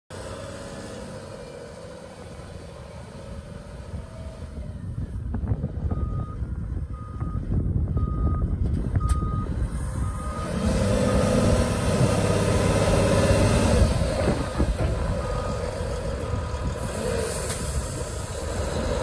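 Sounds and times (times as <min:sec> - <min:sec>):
diesel truck engine running: 0:00.1 - 0:19.0.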